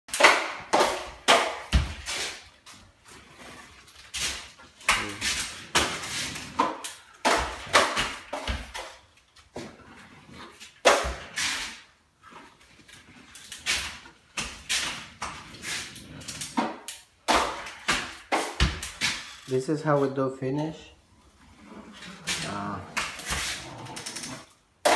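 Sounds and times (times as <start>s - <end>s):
drywall knife scraping: 0.1s - 9.0s, 9.6s - 19.6s, 21.3s - 24.9s.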